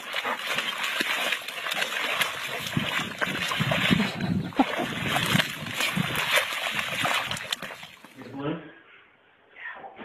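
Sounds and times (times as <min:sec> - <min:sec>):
mud sloshing and splashing: 0:00.0 - 0:08.2.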